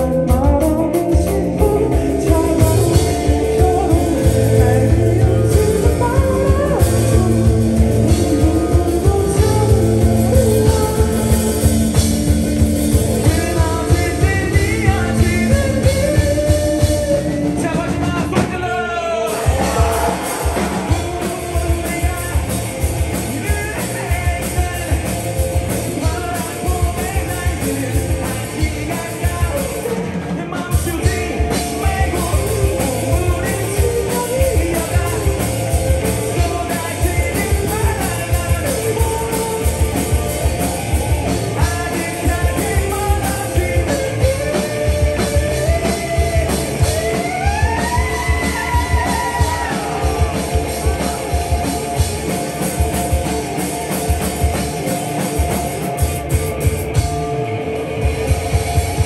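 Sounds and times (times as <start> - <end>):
drum beat: 0.0 - 18.7, 19.3 - 57.2, 58.0 - 59.0
person singing: 0.0 - 59.0
rock band playing live: 0.0 - 59.0.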